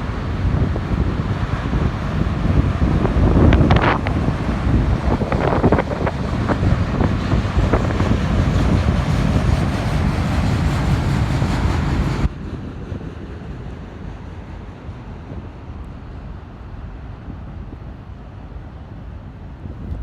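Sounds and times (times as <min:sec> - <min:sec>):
freight train rumbling past: 0:00.0 - 0:20.0
wind buffeting microphone: 0:00.0 - 0:20.0.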